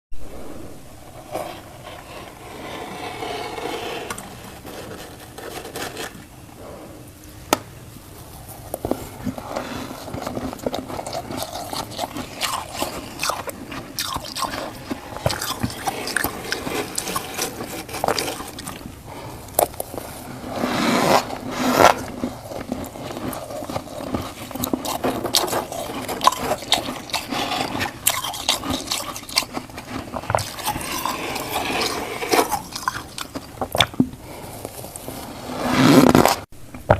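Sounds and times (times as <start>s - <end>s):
freezer frost being scraped: 1.0s - 6.3s, 8.8s - 33.6s, 34.2s - 36.5s.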